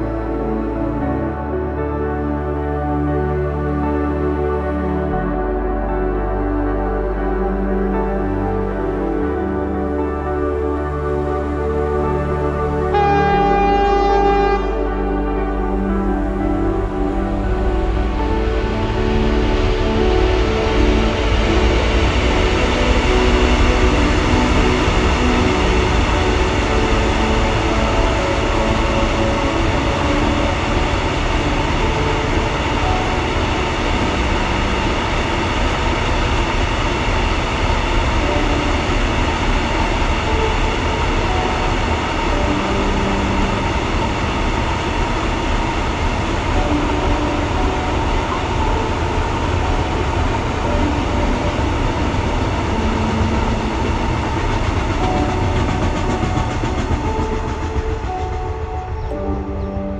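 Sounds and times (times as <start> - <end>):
freight train wheels rumbling: 10.3 - 59.9.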